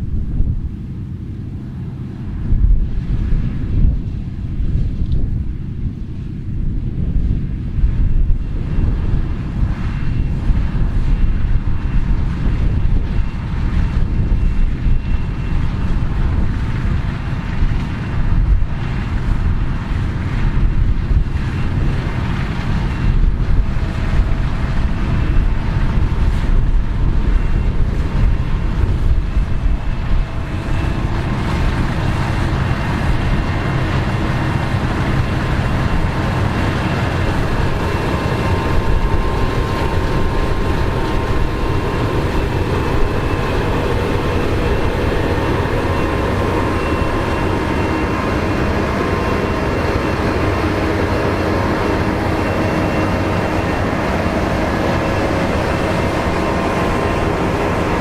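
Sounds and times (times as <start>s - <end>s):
combine harvester drone: 0.0s - 58.0s
faint steady whining tones: 0.0s - 58.0s.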